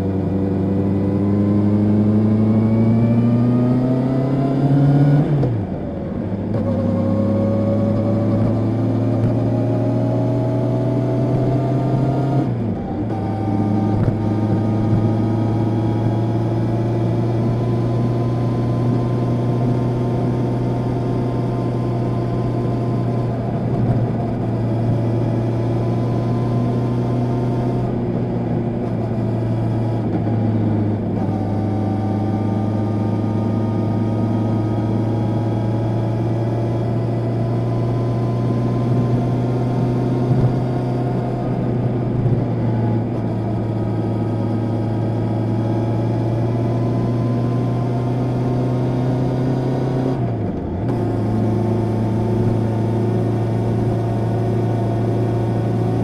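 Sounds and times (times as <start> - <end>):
motorcycle engine under throttle: 0.0 - 56.0.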